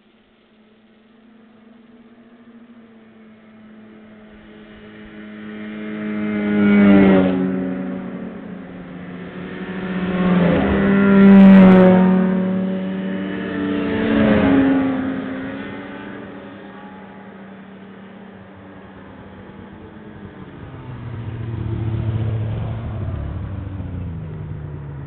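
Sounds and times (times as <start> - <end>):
snowmobile engine whine passing: 0.6 - 25.0.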